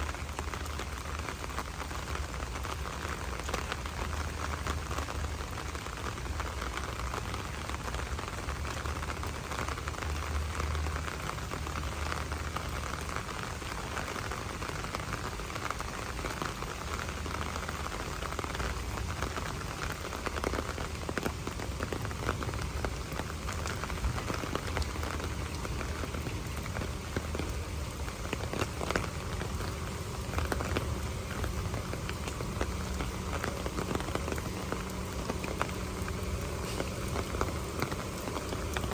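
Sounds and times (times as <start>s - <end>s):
low steady rumble: 0.0s - 38.9s
steady rain falling: 0.0s - 38.9s.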